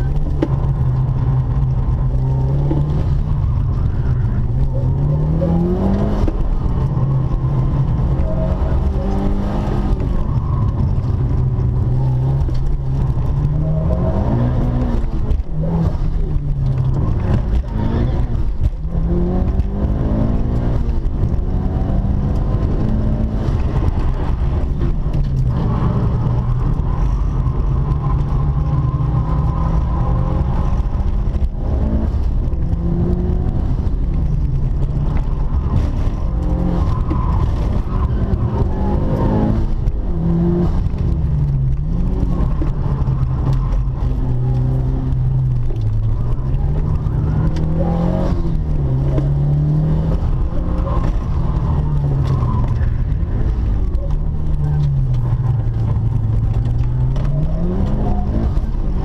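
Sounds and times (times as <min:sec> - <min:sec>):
car engine accelerating and shifting: 0:00.0 - 0:59.0.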